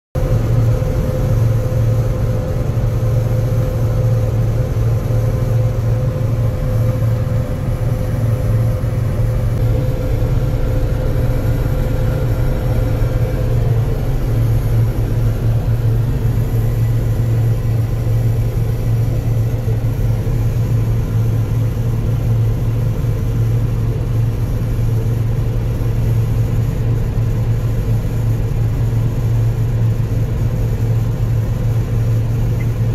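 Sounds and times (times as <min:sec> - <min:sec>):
faint steady hum: 0:00.2 - 0:32.9
farm machinery low drone: 0:00.2 - 0:32.9.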